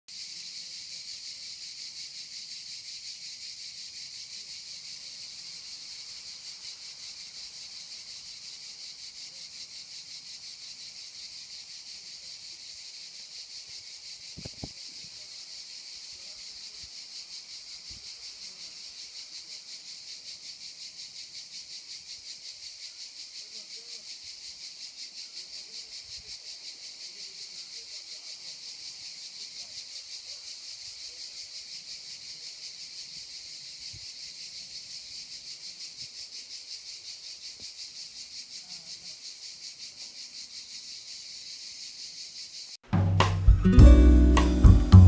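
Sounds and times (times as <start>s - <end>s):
cicadas singing: 0.1s - 45.0s.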